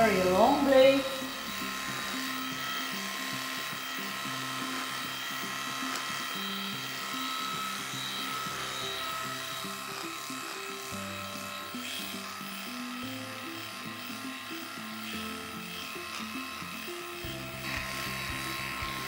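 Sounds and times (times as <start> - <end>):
electric dog clipper whining: 0.0 - 19.0.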